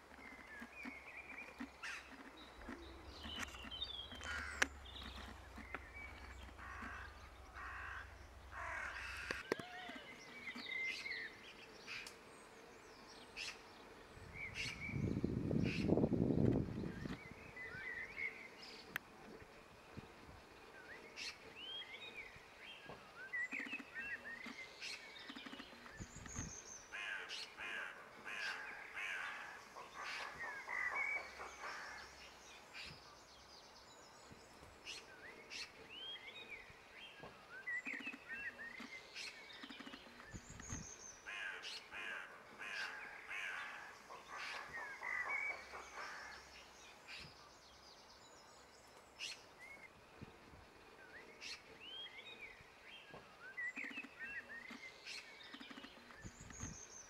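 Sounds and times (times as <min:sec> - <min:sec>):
birds calling and chirping: 0:00.0 - 0:57.0.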